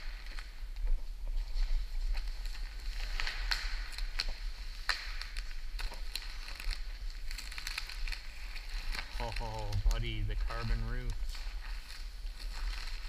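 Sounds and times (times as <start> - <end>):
plastic wrap crackling: 0.0 - 13.0.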